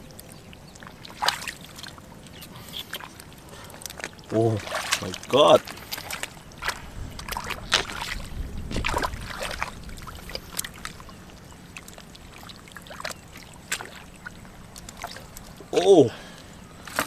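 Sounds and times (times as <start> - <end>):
small splashes: 0.0 - 17.0
hands squelching in muddy water: 0.1 - 15.8.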